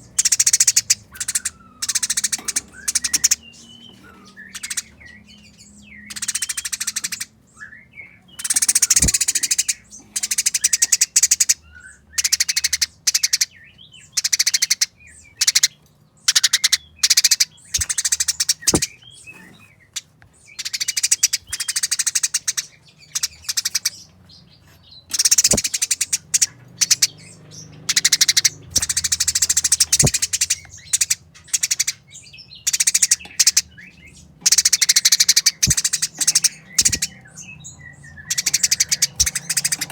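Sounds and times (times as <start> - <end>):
sparrow chirps: 0.0 - 39.9
sparrows harsh chattering: 0.0 - 39.9.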